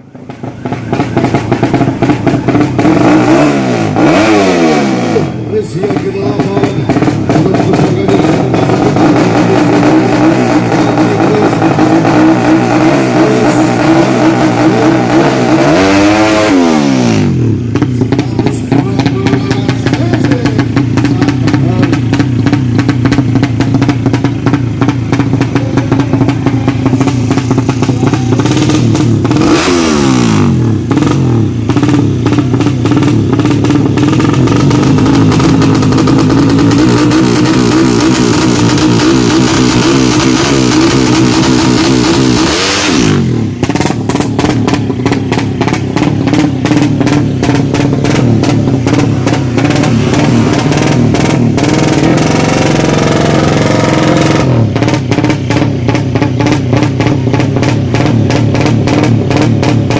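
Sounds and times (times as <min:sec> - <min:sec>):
exhaust crackle: 0:00.0 - 0:59.9
motorcycle engines revving high: 0:00.0 - 0:59.9.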